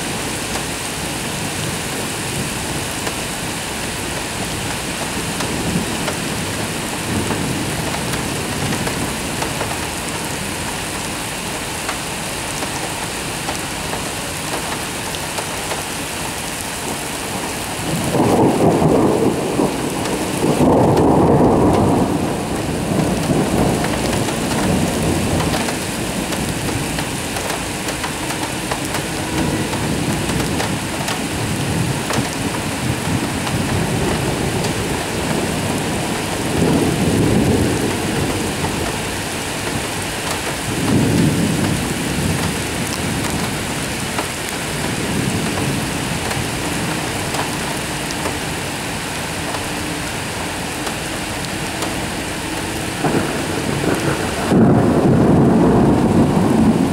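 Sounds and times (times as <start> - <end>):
heavy rain falling: 0.0 - 56.9
thunder rolling: 0.1 - 49.9, 50.8 - 56.9.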